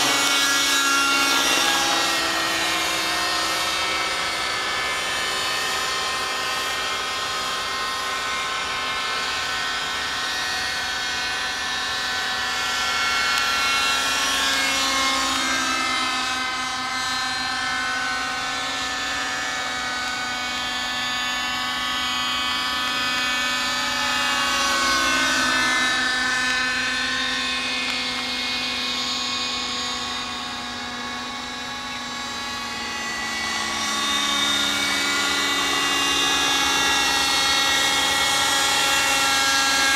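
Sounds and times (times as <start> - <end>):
model helicopter engine whine: 0.0 - 39.9.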